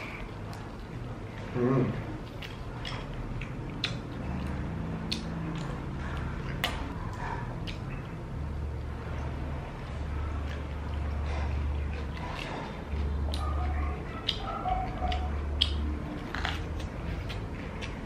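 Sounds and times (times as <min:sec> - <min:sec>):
chewing and mouth noises: 0:00.0 - 0:18.0
low steady hum: 0:00.0 - 0:18.0.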